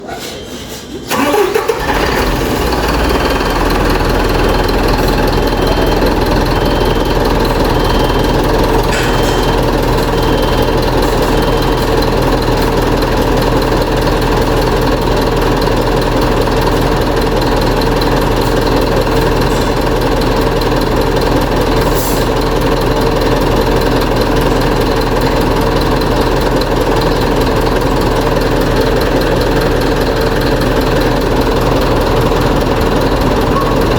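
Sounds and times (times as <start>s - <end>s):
diesel engine cranking and idling: 0.6s - 33.9s.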